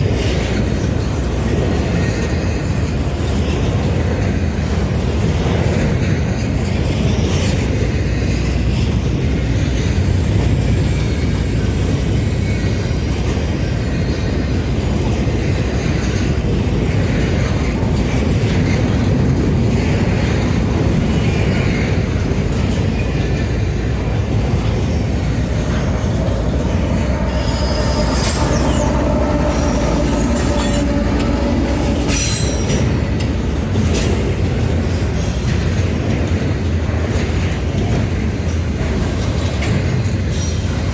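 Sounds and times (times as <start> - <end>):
train wheels rumbling on rails: 0.0 - 40.9
wheels squealing on rails: 0.0 - 40.9.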